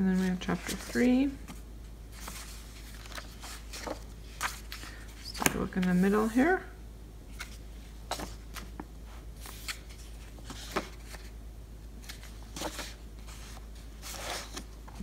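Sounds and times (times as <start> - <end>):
workbook pages turning: 0.1 - 6.4, 7.3 - 11.3, 12.0 - 15.0.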